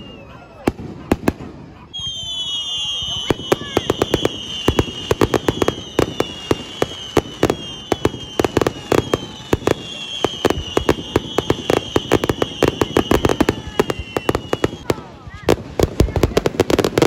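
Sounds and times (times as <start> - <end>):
fireworks whistles: 0.0 - 17.0
fireworks bangs and pops: 0.5 - 17.0.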